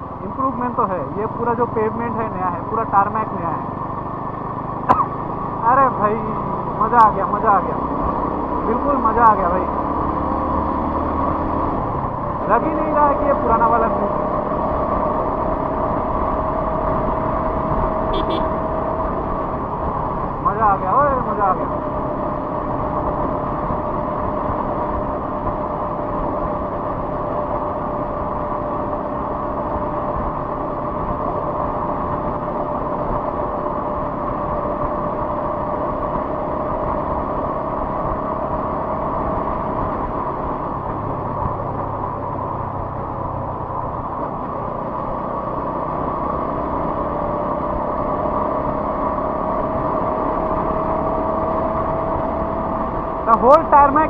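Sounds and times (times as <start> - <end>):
motorcycle engine drone: 0.0 - 54.0
wind and road noise: 0.0 - 54.0.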